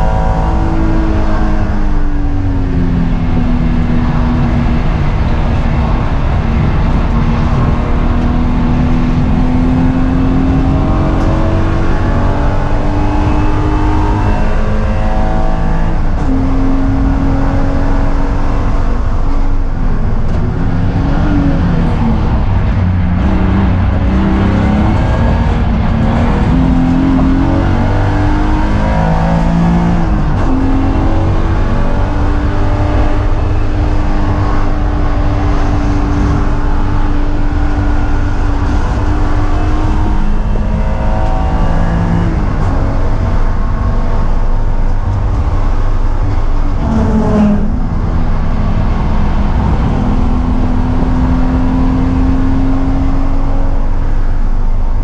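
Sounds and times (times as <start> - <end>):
car engine revving in cabin: 0.0 - 55.0.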